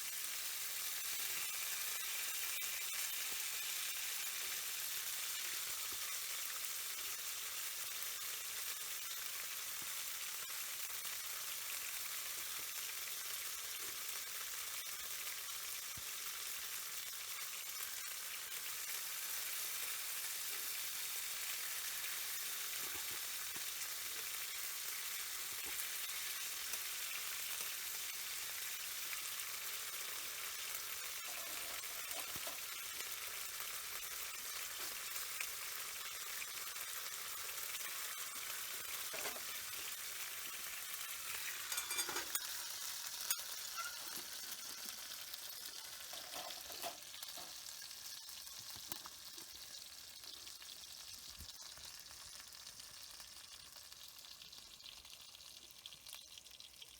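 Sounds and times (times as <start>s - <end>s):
food sizzling in pan: 0.0s - 56.9s.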